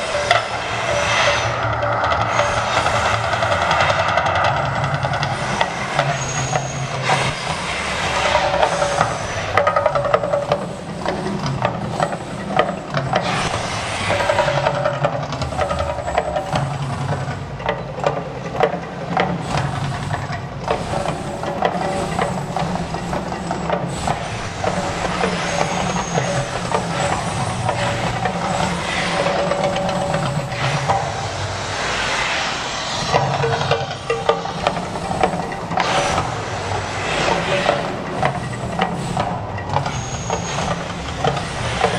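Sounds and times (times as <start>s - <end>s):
gas flame roar and hiss: 0.0s - 41.9s.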